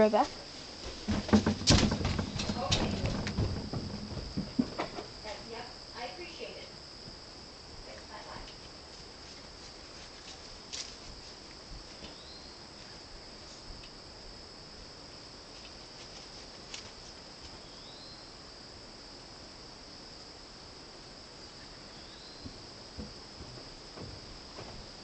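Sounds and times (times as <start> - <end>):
high-pitched insect trill: 0.0 - 25.0.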